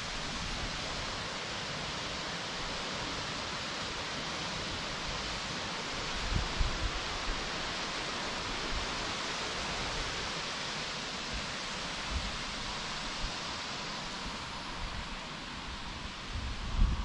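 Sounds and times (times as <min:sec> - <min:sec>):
water rushing: 0:00.0 - 0:16.4.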